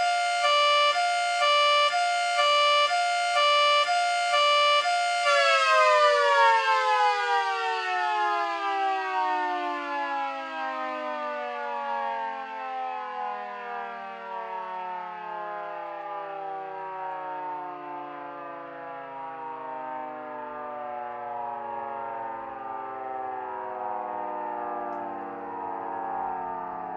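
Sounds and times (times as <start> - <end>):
warning siren winding down: 0.0 - 26.9.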